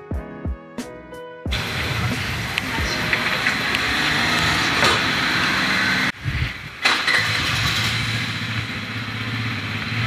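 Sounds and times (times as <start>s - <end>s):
scooter engine starting and idling: 1.5s - 10.0s.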